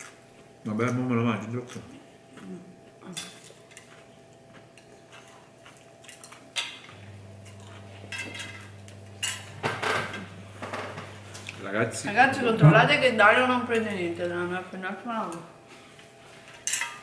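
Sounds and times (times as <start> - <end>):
low steady hum: 0.0 - 16.1.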